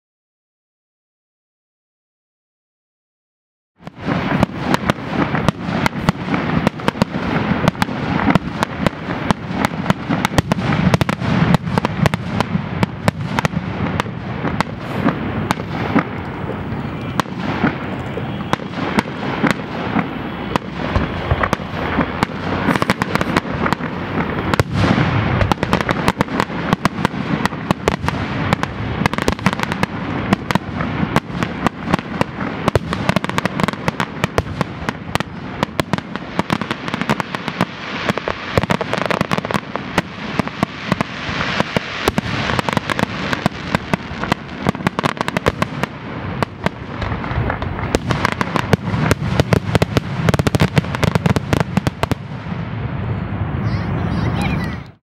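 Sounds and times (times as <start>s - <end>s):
firework shell bursts and crackling: 3.8s - 52.7s.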